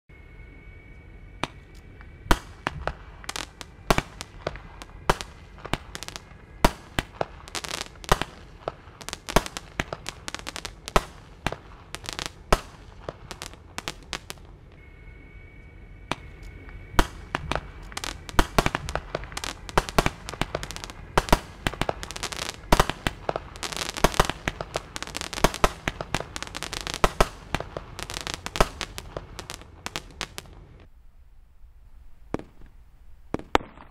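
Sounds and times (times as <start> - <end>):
fireworks bangs: 1.4 - 14.9, 16.0 - 30.9, 32.3 - 33.9.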